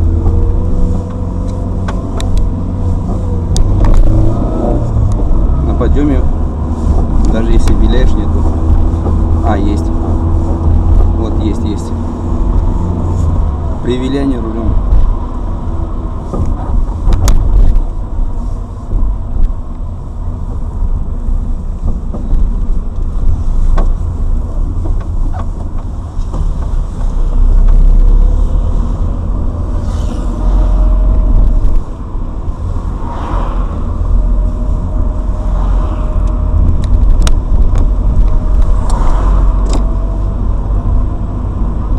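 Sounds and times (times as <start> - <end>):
car road noise: 0.0 - 41.9.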